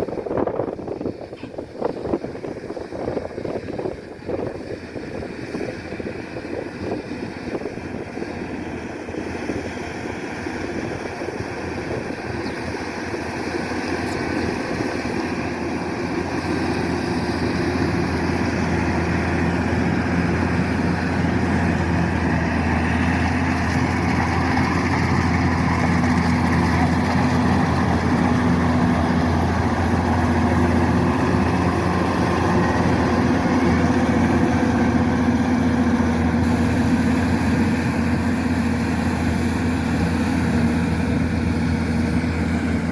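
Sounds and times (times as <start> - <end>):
combine harvester diesel engine: 0.0 - 42.9.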